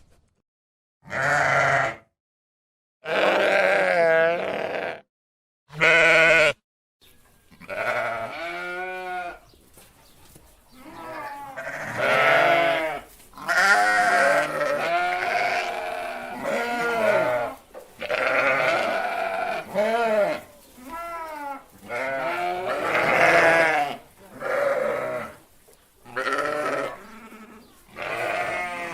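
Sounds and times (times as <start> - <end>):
sheep bleating: 1.0 - 2.1, 3.0 - 5.1, 5.7 - 6.6, 7.5 - 9.4, 10.8 - 25.4, 26.1 - 28.9.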